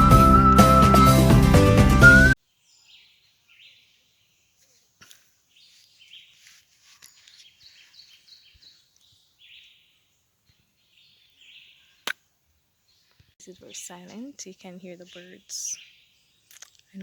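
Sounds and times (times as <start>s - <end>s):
faint birdsong: 2.3s - 17.0s.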